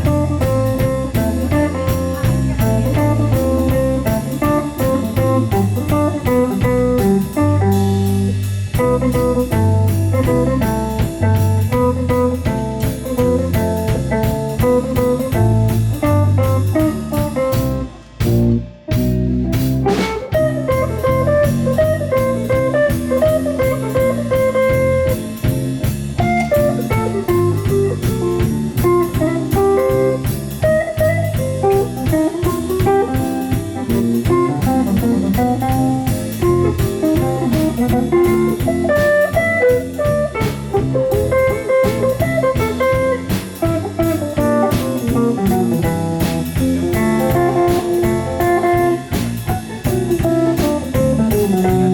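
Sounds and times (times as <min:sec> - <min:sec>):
live jazz ensemble playing: 0:00.0 - 0:51.9.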